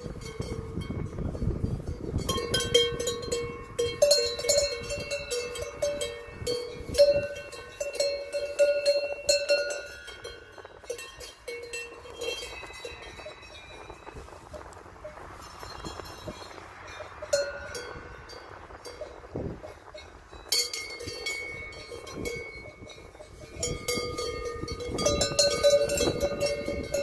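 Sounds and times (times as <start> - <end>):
cowbells clanking: 0.0 - 27.0.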